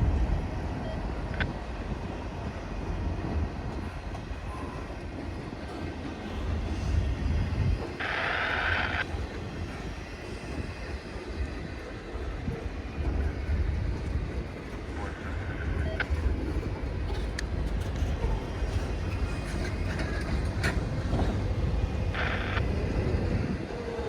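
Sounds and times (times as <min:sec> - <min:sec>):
freight train rumbling past: 0:00.0 - 0:08.1, 0:08.7 - 0:24.0.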